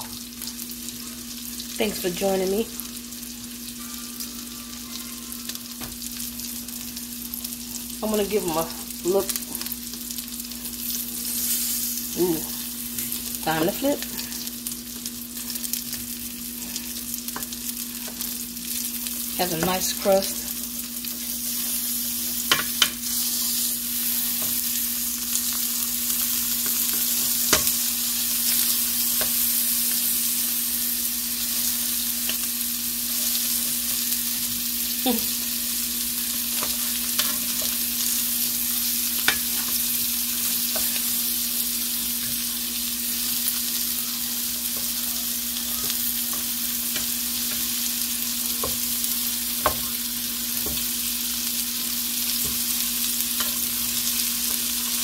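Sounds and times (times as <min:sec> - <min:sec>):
meat sizzling in a pan: 0:00.0 - 0:55.0.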